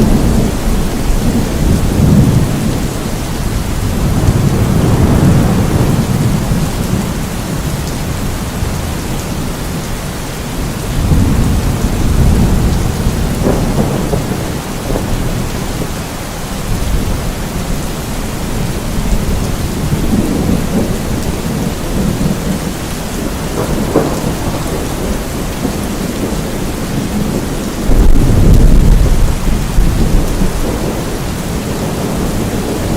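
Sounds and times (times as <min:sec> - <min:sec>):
heavy rain: 0:00.0 - 0:32.9
low rolling thunder: 0:00.0 - 0:32.9.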